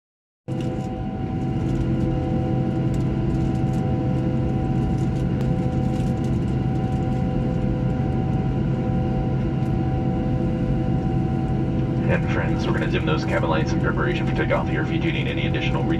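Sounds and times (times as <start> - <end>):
aircraft cabin drone: 0.5 - 15.9.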